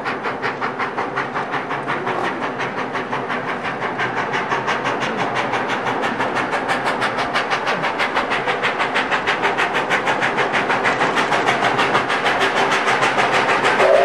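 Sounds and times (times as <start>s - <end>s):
steam locomotive exhaust chuffing: 0.0s - 14.0s.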